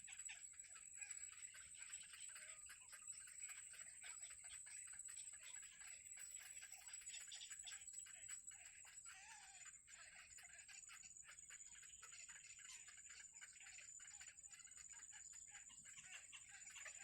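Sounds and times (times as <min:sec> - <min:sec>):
nestling birds cheeping: 0:00.0 - 0:17.0.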